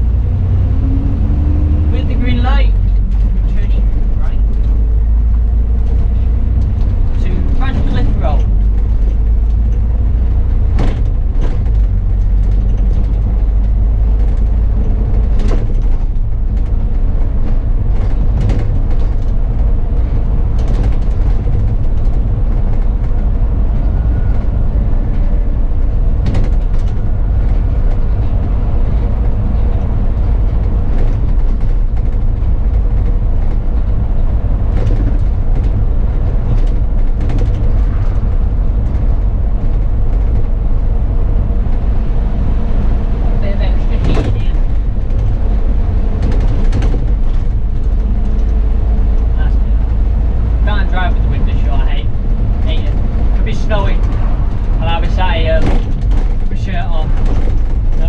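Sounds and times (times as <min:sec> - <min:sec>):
bus engine and road rumble: 0:00.0 - 0:58.0
rattles and knocks from bus body: 0:00.0 - 0:58.0.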